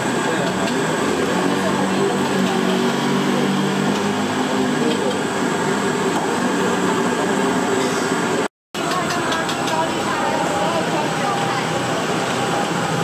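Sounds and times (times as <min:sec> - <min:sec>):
indistinct voices: 0:00.0 - 0:13.0
loud background din: 0:00.0 - 0:13.0
low engine-like hum: 0:00.0 - 0:13.0.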